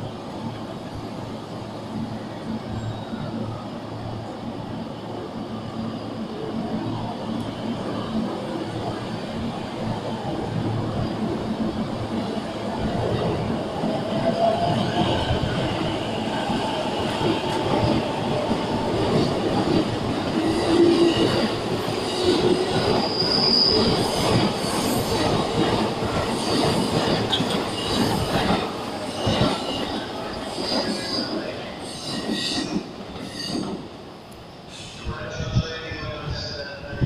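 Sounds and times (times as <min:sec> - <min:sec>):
electric train rolling past: 0:00.0 - 0:37.0.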